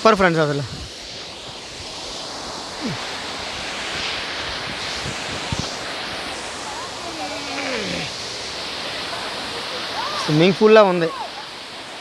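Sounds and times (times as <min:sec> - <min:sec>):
waterfall pouring into a pool: 0:01.4 - 0:12.0.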